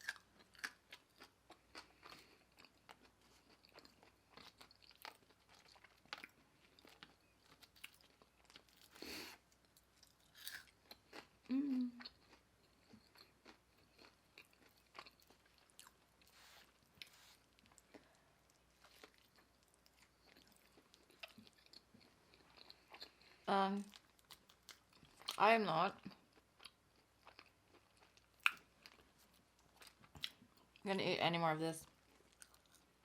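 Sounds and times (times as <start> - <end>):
person chewing food: 0.0 - 25.4, 26.0 - 30.8, 31.9 - 33.0.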